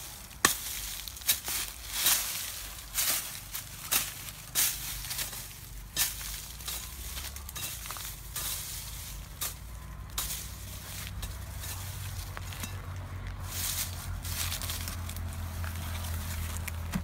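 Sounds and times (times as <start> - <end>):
dry leaves crunching: 0.0 - 17.0.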